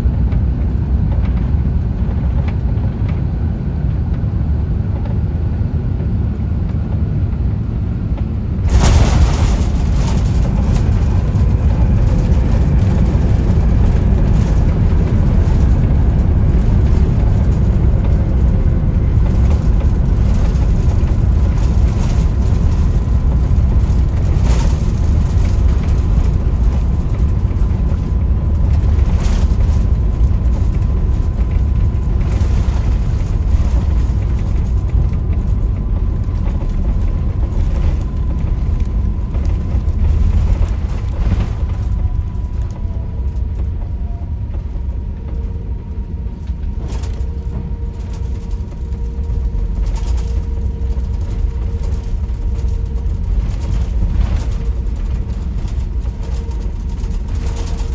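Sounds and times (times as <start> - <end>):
airplane cabin low rumble: 0.0 - 57.9.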